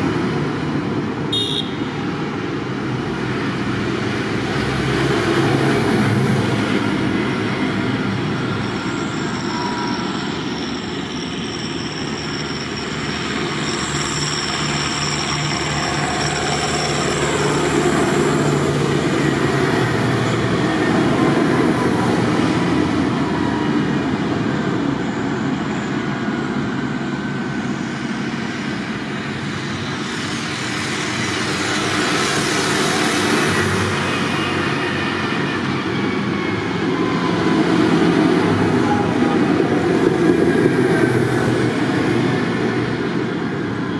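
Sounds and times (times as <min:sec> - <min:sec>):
tractor engines rumbling: 0:00.0 - 0:43.9.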